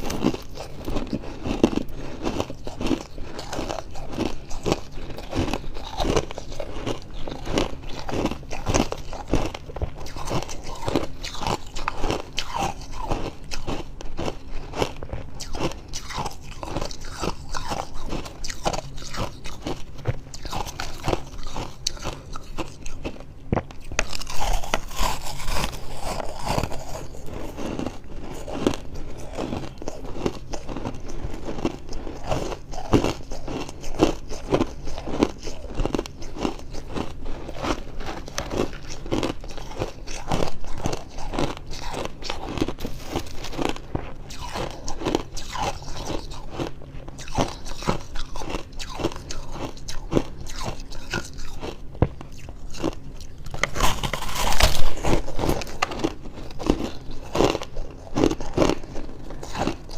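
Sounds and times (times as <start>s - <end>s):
chewing frost crunches: 0.0s - 59.9s.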